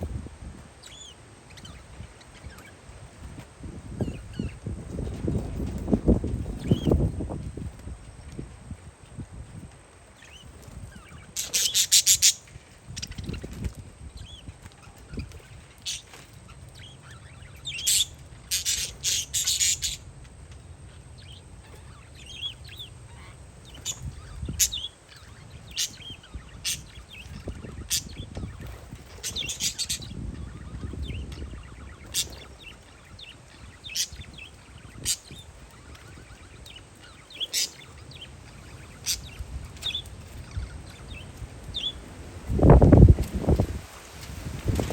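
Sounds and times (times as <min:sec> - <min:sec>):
parakeets chirping: 0:00.0 - 0:08.5, 0:10.0 - 0:44.9
wind rumble on microphone: 0:00.0 - 0:44.9.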